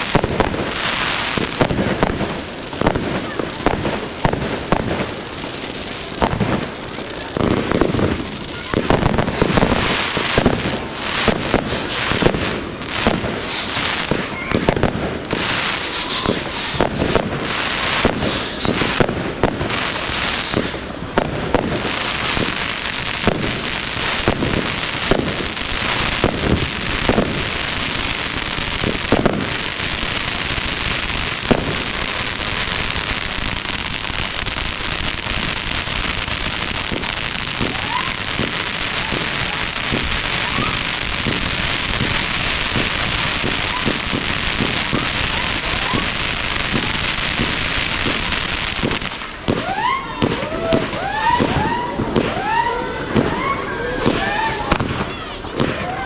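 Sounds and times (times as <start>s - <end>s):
fireworks bangs: 0.0s - 56.0s
fireworks crackling hiss: 0.0s - 56.0s.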